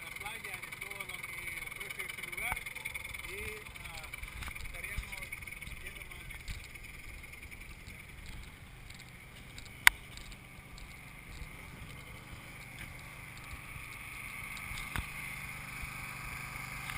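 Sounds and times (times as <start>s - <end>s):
scooter engine running: 0.0s - 16.9s.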